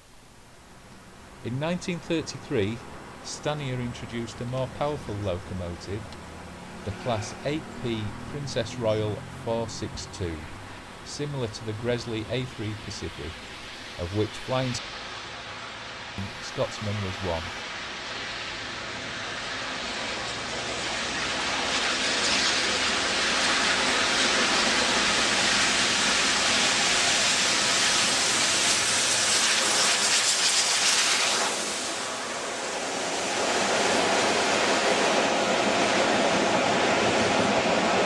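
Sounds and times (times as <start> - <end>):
steam locomotive passing: 1.3 - 38.0.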